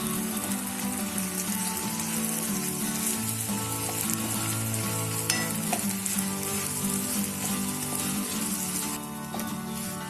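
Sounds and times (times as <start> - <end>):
masala sizzling in a pan: 0.0 - 10.0
spatula mixing rice: 0.0 - 10.0.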